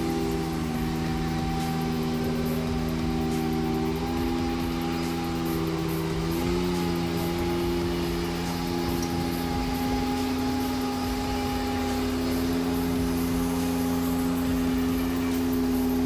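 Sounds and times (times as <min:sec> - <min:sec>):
power trowel engine humming: 0:00.0 - 0:16.0.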